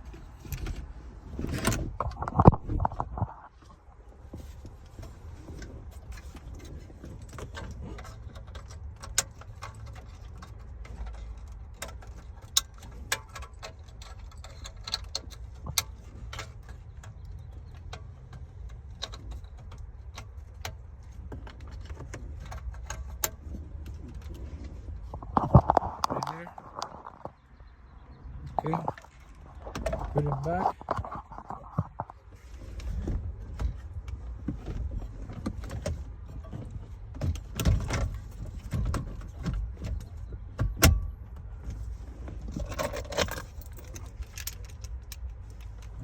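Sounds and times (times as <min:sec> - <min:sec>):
clicks and rattles of hard parts: 0:00.0 - 0:03.6, 0:04.3 - 0:27.5, 0:28.3 - 0:46.0.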